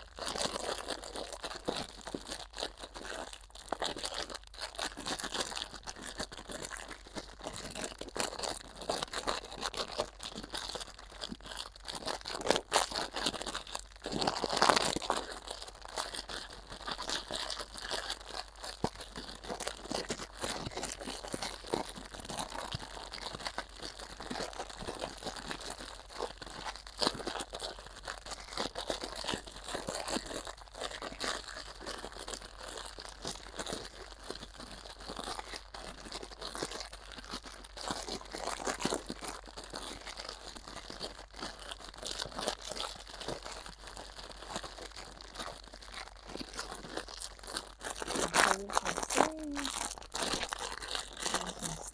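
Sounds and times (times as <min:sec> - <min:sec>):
crinkling and crumpling: 0:00.0 - 0:51.9.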